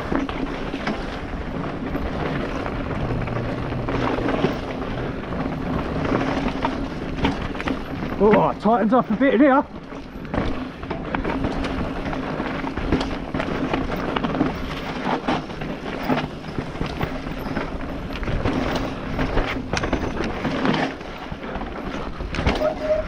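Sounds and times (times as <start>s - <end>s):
bike knocking and rattling: 0.0s - 23.0s
bike tyres rumbling over dirt: 0.0s - 23.0s.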